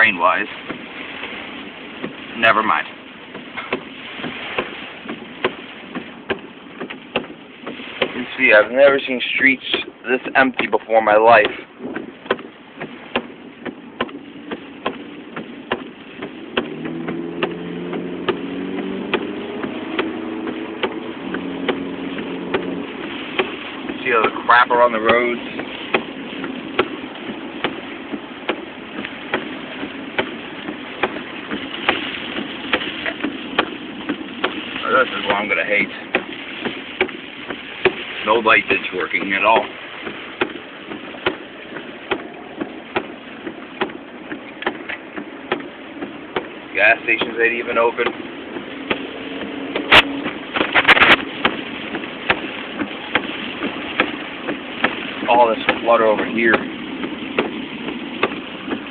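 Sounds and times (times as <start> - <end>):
heavy rain on car: 0.0 - 58.9
road noise inside moving car: 0.0 - 58.9
sharp taps and knocks: 0.6 - 1.4, 2.0 - 2.2, 3.3 - 8.3, 9.7 - 10.8, 11.4 - 58.9.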